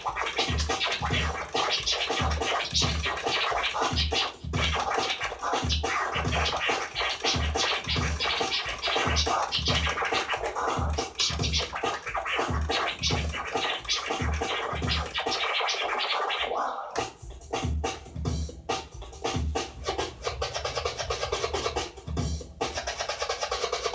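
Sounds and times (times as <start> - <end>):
dj scratching: 0.0 - 23.9
electronic beat with kick drum: 0.0 - 23.9.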